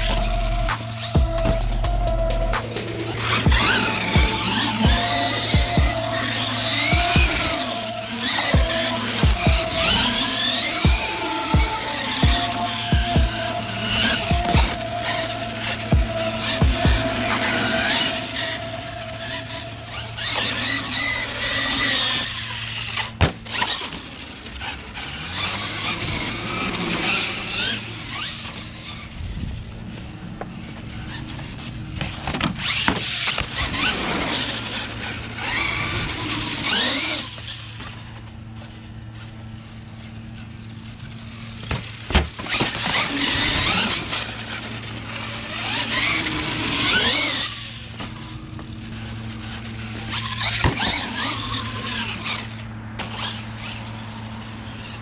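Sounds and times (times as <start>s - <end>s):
rc truck electric motor whining: 0.0s - 55.0s.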